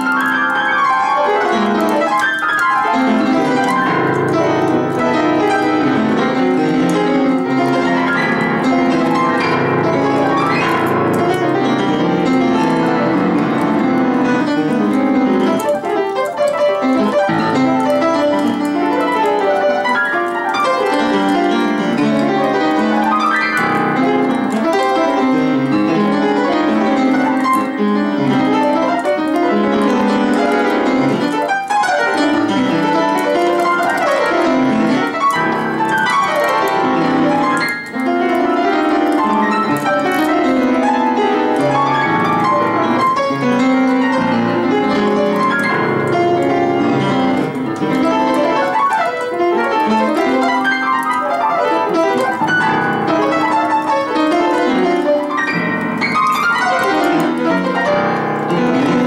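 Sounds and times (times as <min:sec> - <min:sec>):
out of tune piano improvisation: 0:00.0 - 0:59.0.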